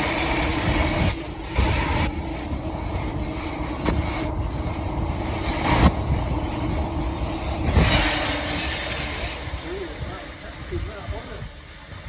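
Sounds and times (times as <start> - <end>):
train running past: 0.0 - 12.0.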